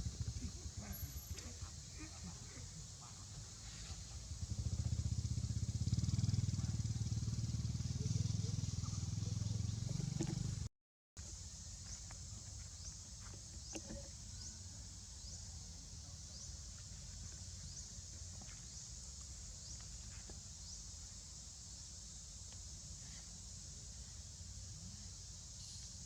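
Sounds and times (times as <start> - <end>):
high insect drone: 0.0 - 10.4, 11.2 - 26.0.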